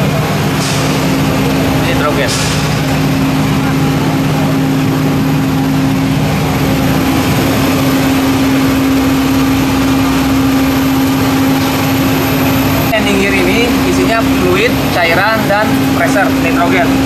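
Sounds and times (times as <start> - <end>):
lower hum: 0.0 - 17.0
machinery droning: 0.0 - 17.0.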